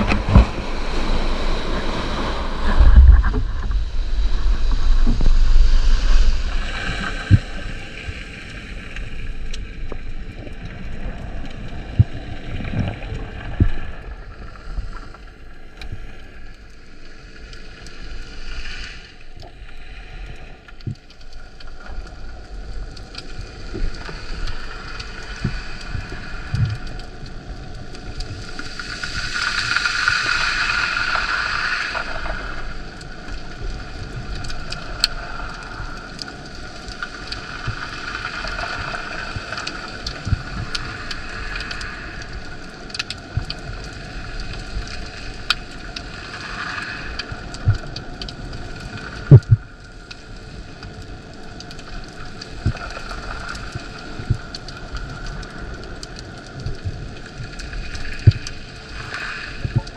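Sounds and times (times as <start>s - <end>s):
underwater hiss with crackles: 0.0s - 59.9s.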